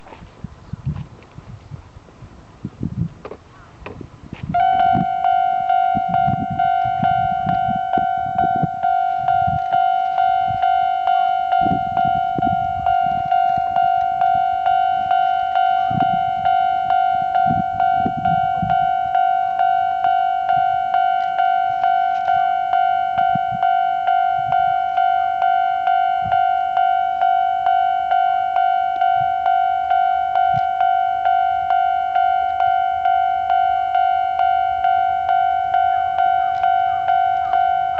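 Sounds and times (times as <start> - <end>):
level-crossing alarm bell dinging: 4.5 - 37.9.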